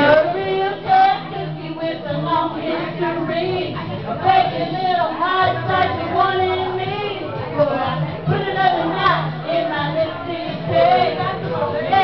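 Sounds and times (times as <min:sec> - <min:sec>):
women singing karaoke: 0:00.0 - 0:12.0.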